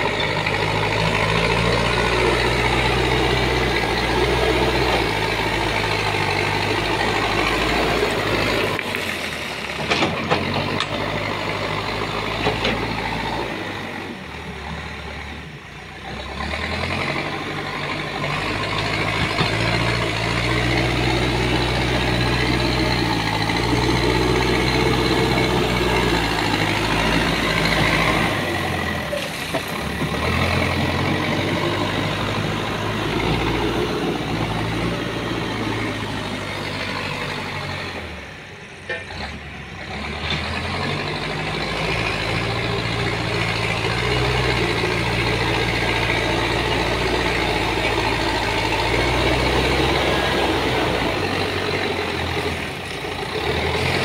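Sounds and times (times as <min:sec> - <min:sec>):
diesel engine working: 0:00.0 - 0:54.0.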